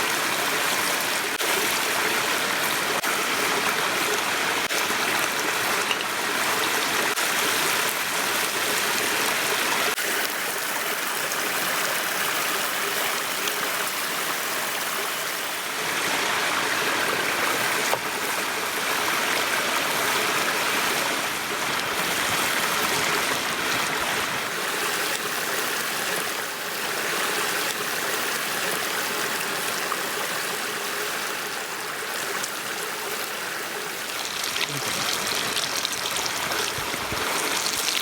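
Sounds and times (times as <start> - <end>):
stream rushing: 0.0 - 38.0.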